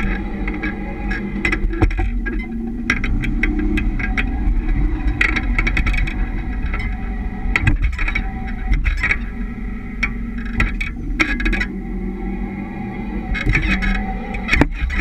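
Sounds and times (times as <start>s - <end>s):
suspension knocks and clicks: 0.0s - 11.7s, 13.3s - 15.0s
road rumble: 0.0s - 15.0s.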